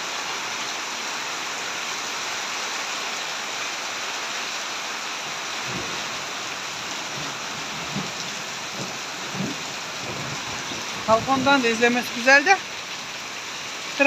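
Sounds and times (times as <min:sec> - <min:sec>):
heavy rain on pavement: 0:00.0 - 0:14.0.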